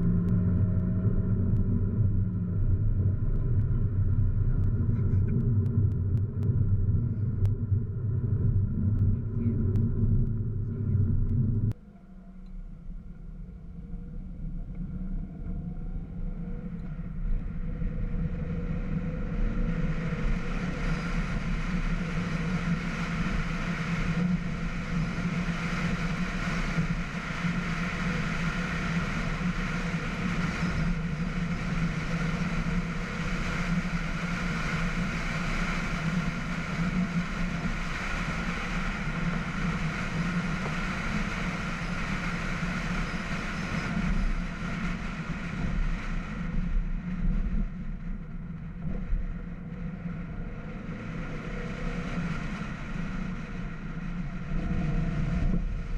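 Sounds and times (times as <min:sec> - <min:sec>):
wind noise: 0:00.0 - 0:11.8, 0:12.5 - 0:55.9
car engine accelerating: 0:00.0 - 0:47.8
road noise: 0:00.0 - 0:55.9.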